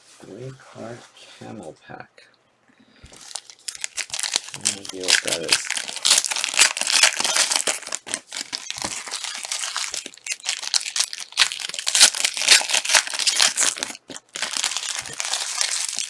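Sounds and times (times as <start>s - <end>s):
plastic foil wrappers crinkling: 3.1s - 16.0s.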